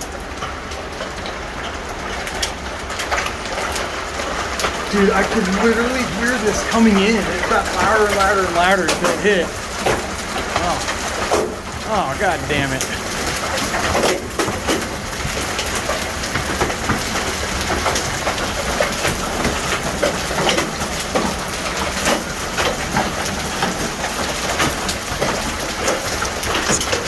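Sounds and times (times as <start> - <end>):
hailstones pelting down: 0.0 - 27.0.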